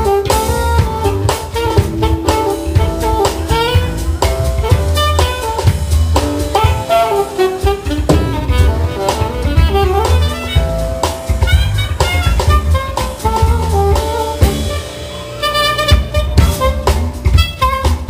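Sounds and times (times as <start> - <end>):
drum kit hits: 0.0 - 18.0
jazz band playing: 0.0 - 18.0
saxophone melody: 0.0 - 18.0.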